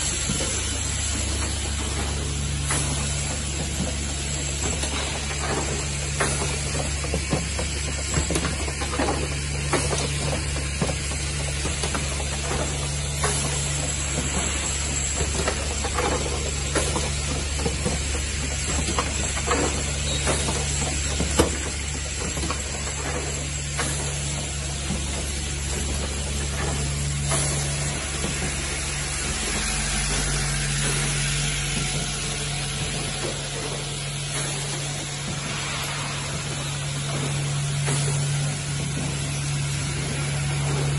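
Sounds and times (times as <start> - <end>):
machine humming and hissing: 0.0 - 40.9.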